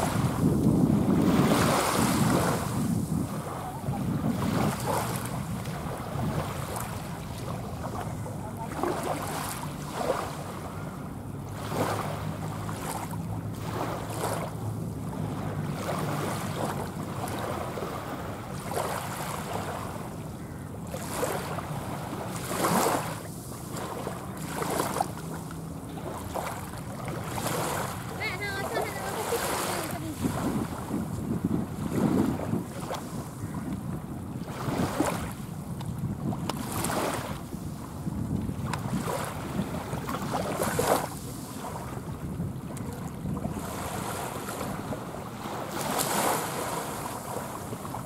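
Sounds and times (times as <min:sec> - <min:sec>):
wind gusts on microphone: 0:00.0 - 0:48.0.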